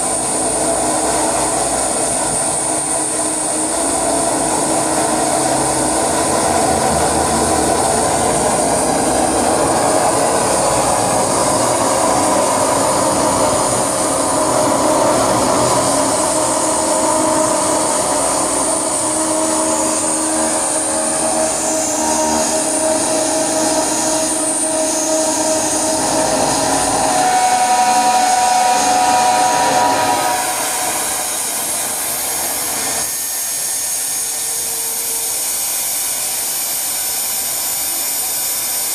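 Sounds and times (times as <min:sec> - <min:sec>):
steady held tones: 0:00.0 - 0:34.6
electronic noise drone: 0:00.0 - 0:38.9
hiss: 0:00.0 - 0:38.9.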